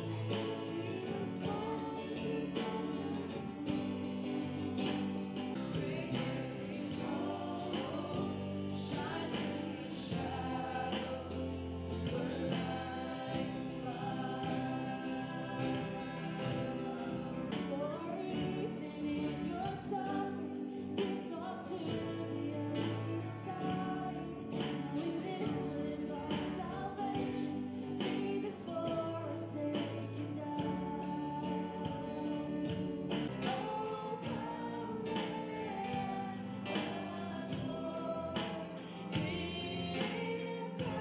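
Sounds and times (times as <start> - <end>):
song with sung vocals: 0.0 - 41.0.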